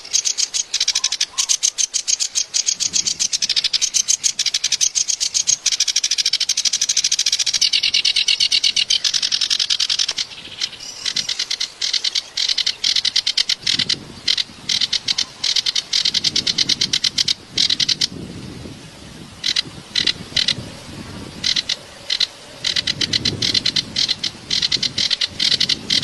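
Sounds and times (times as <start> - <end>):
reed warbler harsh chatter: 0.0 - 18.3, 19.4 - 26.0.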